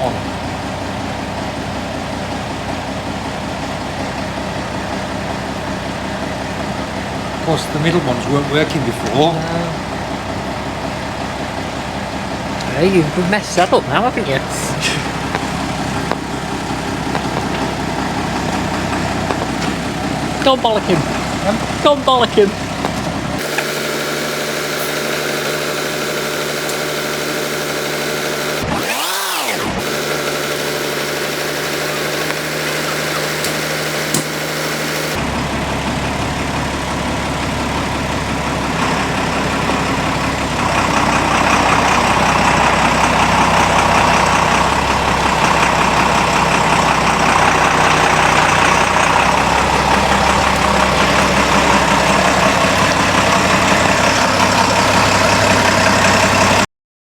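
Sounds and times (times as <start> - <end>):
engine running: 0.0 - 56.7.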